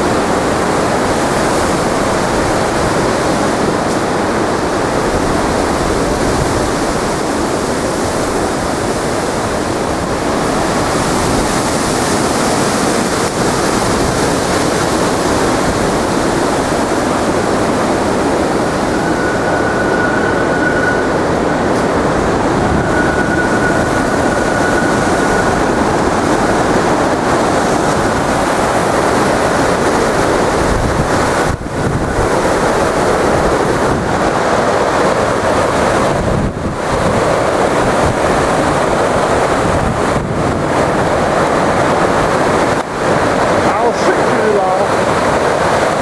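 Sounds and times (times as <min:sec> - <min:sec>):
strong wind rushing through trees: 0:00.0 - 0:46.0
wind buffeting microphone: 0:00.0 - 0:46.0
wind howling through power lines: 0:00.0 - 0:46.0.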